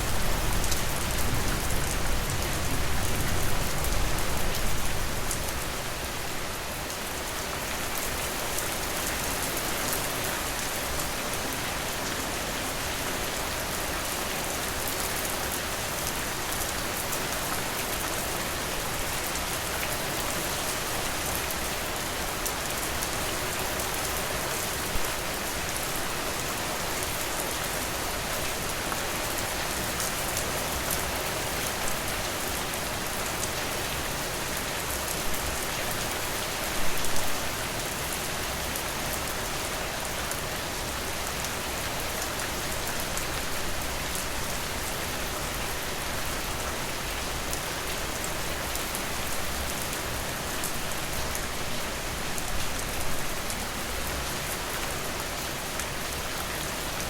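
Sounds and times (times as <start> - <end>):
steady rainfall patter: 0.0 - 57.0.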